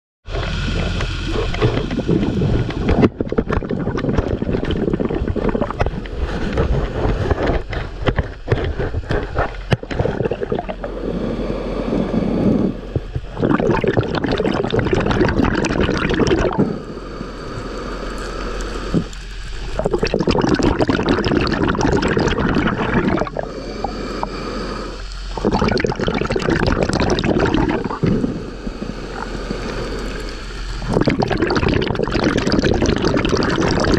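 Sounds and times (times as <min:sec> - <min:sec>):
underwater bubbling and gurgling: 0:00.2 - 0:33.9
water noise against camera: 0:00.3 - 0:33.9.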